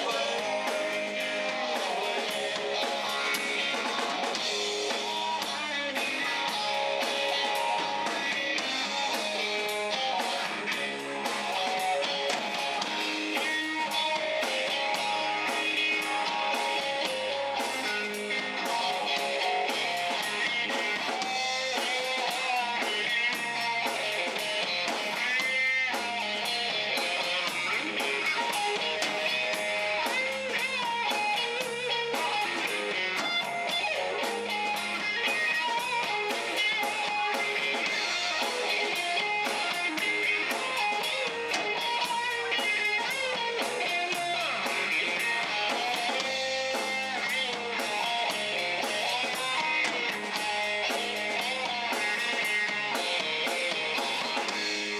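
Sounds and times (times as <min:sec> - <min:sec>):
drum kit: 0:00.0 - 0:54.9
electric guitar lead line: 0:00.0 - 0:54.9.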